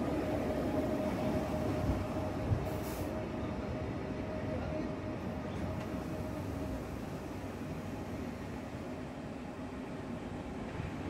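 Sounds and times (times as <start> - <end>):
train electric hum and rumble: 0.0 - 11.0.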